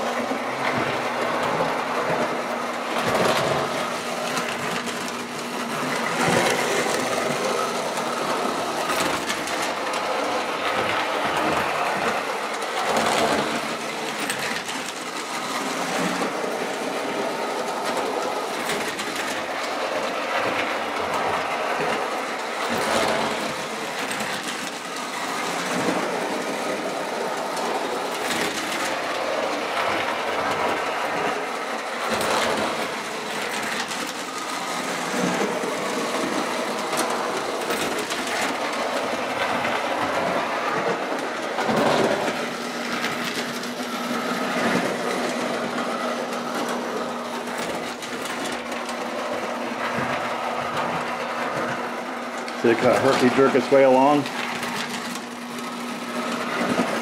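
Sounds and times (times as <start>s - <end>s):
toy train motor whirring: 2.0s - 57.0s.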